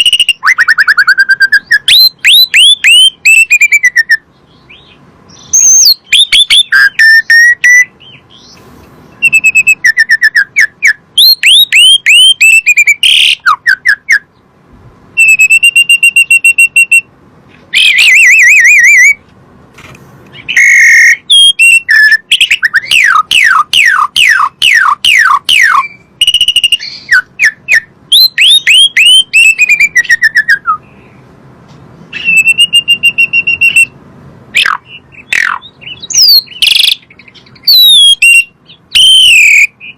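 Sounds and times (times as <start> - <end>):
starling singing whistled phrases: 0.0 - 14.4, 15.2 - 17.1, 17.7 - 19.2, 20.3 - 31.0, 32.1 - 34.0, 34.6 - 39.9.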